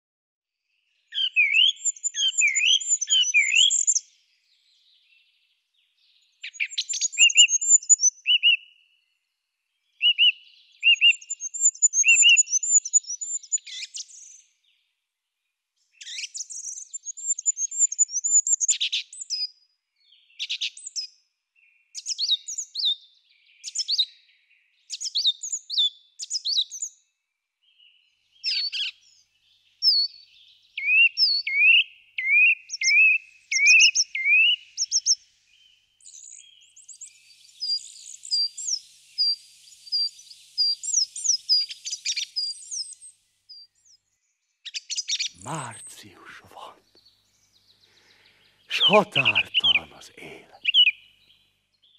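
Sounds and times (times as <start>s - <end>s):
songbirds singing: 0.7s - 27.0s, 27.6s - 51.9s.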